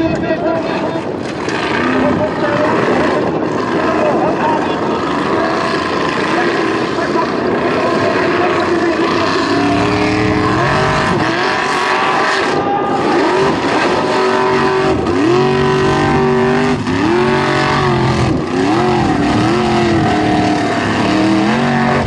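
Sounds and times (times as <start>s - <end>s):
buggy engine revving hard: 1.3s - 22.0s.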